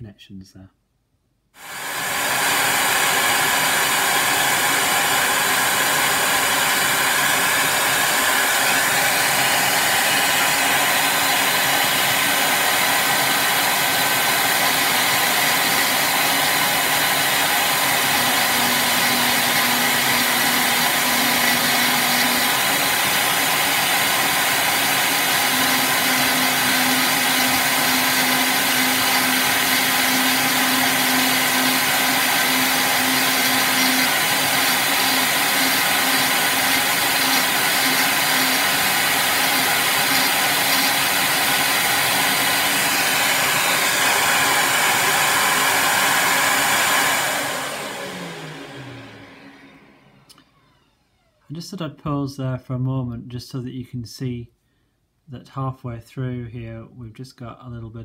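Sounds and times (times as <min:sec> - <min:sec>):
rotary tool grinding resin: 0:01.6 - 0:49.0.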